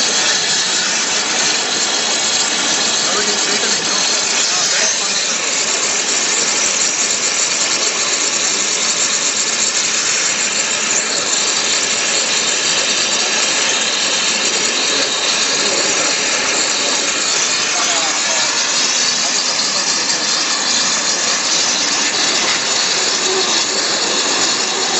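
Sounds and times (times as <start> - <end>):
high-pressure waterjet hiss: 0.0 - 24.9.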